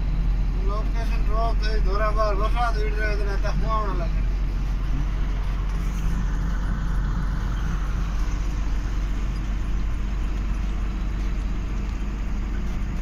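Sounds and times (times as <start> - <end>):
large vehicle engine and road rumble: 0.0 - 13.0.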